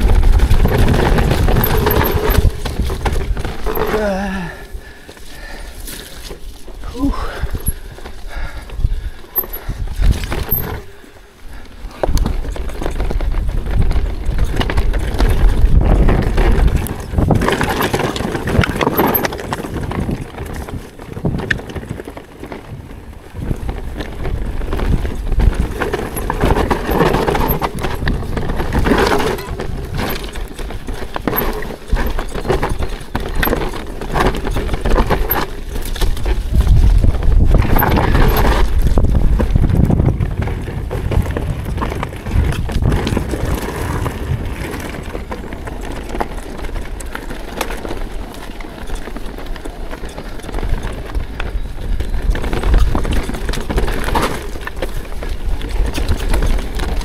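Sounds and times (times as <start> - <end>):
bike rattling over rocks: 0.0 - 57.0.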